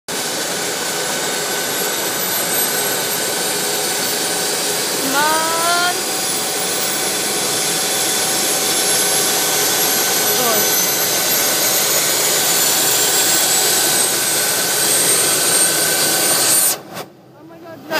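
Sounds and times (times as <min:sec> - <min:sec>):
helicopter turbine engines whining: 0:00.1 - 0:17.9.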